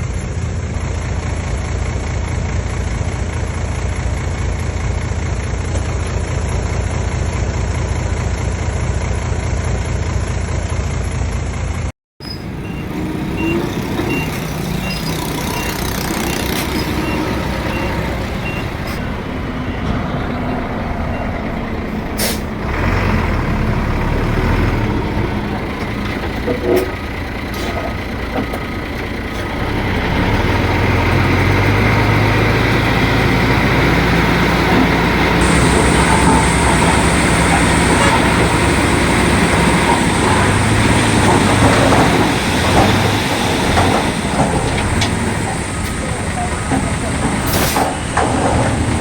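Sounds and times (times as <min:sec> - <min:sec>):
diesel machinery running: 0:00.0 - 0:49.0.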